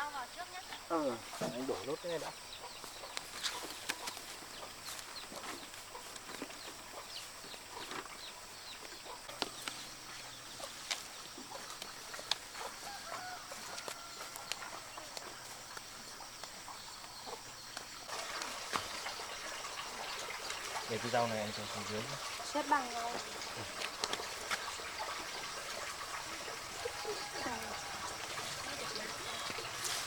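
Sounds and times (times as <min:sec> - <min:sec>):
chickens clucking: 0:01.1 - 0:30.0.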